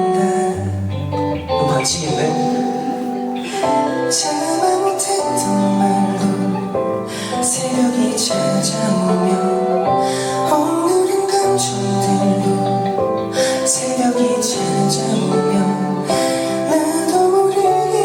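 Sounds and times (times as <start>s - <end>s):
live band playing slow song: 0.0s - 18.0s.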